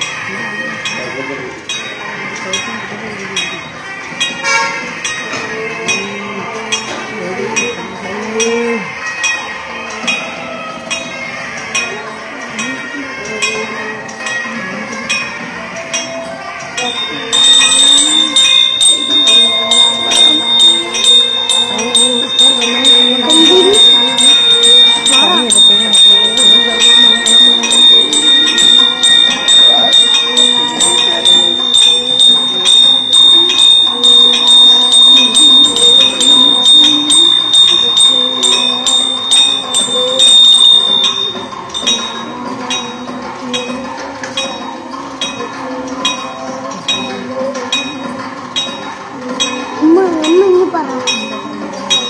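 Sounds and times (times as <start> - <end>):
bell rung rapidly: 0.0 - 52.0.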